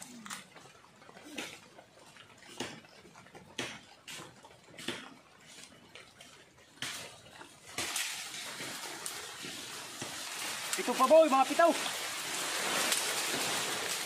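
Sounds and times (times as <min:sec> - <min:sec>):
wooden poles knocking and clattering: 0:00.0 - 0:14.0.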